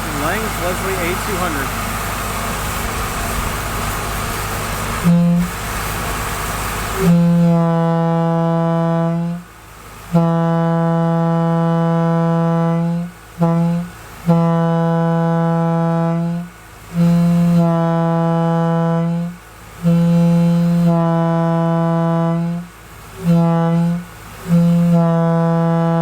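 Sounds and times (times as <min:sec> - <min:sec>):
air horn blasts: 0:00.0 - 0:01.7, 0:05.0 - 0:05.7, 0:06.9 - 0:26.0.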